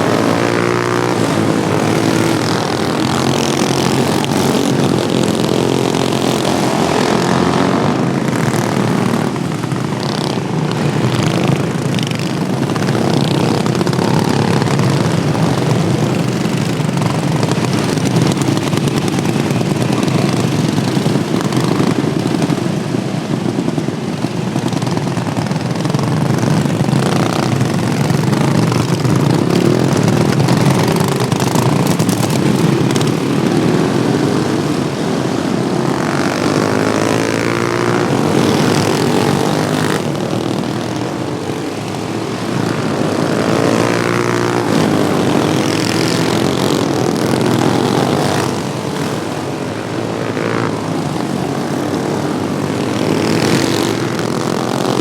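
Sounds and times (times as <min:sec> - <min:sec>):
lawnmower passing by: 0:00.0 - 0:55.0
racing lawnmower engines buzzing: 0:00.0 - 0:55.0.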